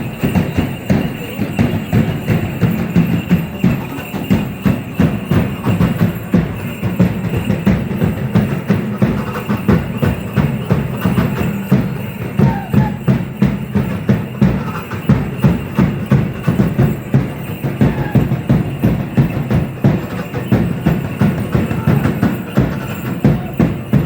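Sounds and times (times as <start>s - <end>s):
drums beating quick rhythm: 0.0s - 24.0s.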